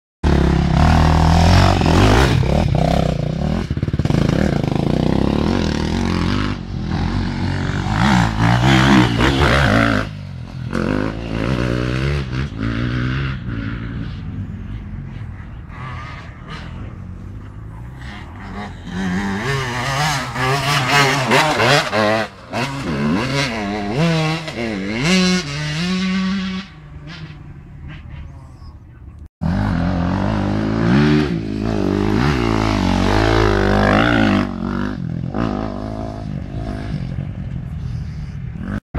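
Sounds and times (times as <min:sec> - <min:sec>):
motocross engines revving: 0:00.2 - 0:38.8.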